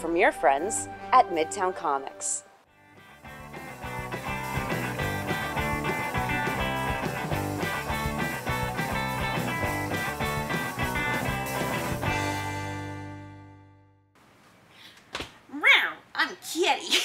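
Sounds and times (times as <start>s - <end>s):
background music with steady beat: 0.0s - 13.7s.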